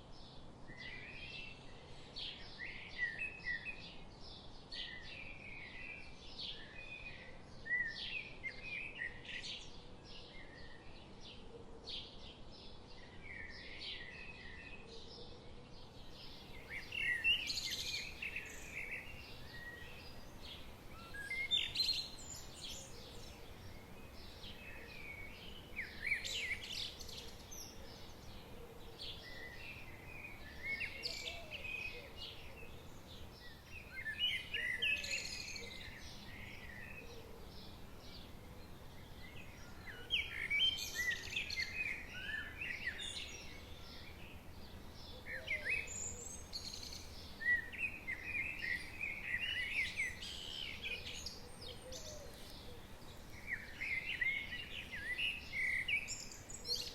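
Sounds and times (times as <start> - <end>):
faint background hiss: 0.0 - 56.9
songbirds singing: 0.0 - 56.9.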